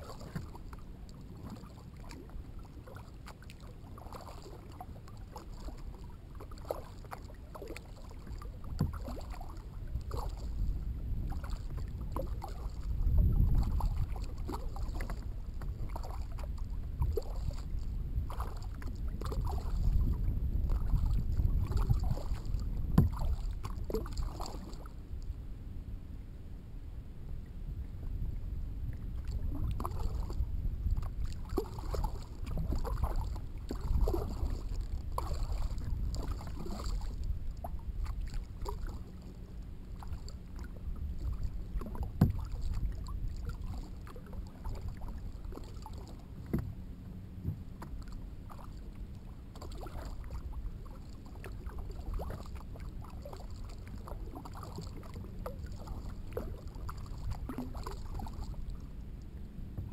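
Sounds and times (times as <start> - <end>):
paddle strokes splashing: 0.0 - 25.3, 29.0 - 59.9
water lapping at hull: 0.0 - 59.9.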